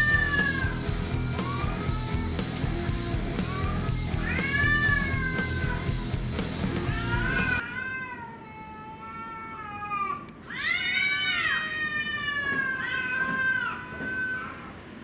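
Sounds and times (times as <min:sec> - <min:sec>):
cats yowling: 0:00.0 - 0:02.2, 0:03.4 - 0:06.1, 0:06.7 - 0:14.8.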